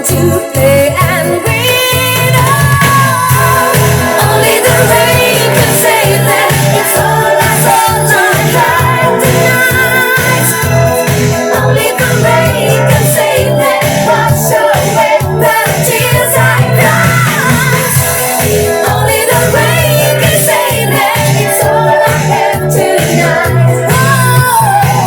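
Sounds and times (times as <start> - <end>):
pop song with sung vocals: 0.0 - 25.0
pulsing bass beat: 0.0 - 25.0.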